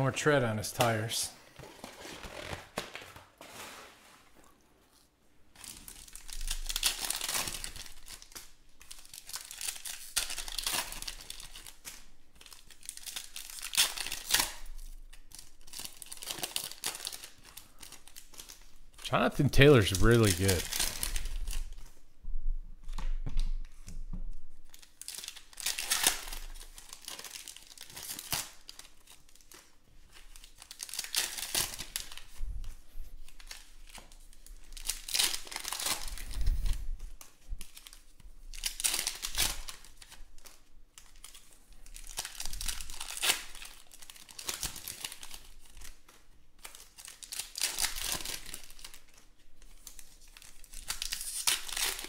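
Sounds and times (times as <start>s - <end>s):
card pack wrappers tearing: 1.8s - 3.7s, 5.6s - 21.9s, 24.7s - 32.4s, 33.2s - 52.0s.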